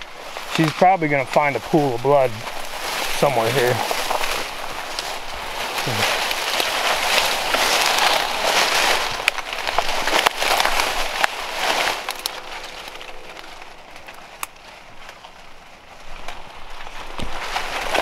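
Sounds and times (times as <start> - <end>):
dry fronds rustling and crackling: 0.0 - 18.0.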